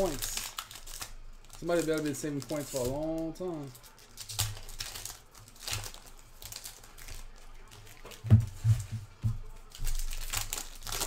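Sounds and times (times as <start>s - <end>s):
cards crinkling and shuffling: 0.0s - 11.0s.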